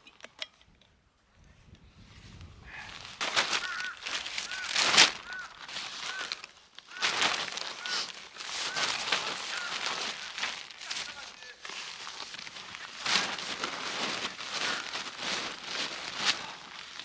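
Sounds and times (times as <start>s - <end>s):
footsteps crunching in snow: 2.7s - 17.0s.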